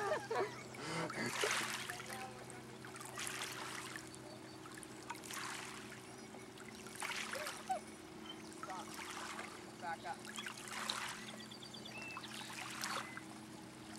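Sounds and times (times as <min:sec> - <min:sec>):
low motor hum: 0:00.0 - 0:13.9
water lapping and trickling: 0:00.0 - 0:13.9.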